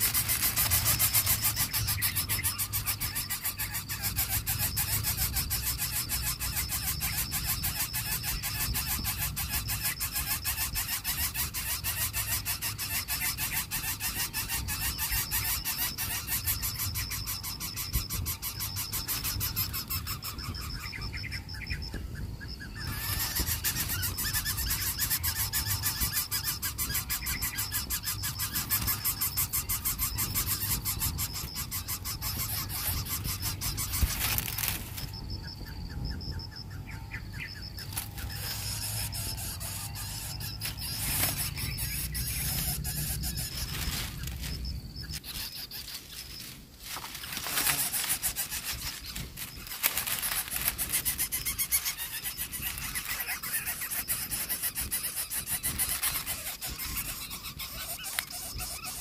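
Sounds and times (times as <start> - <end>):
chicks rasping begging calls: 0.0 - 59.0.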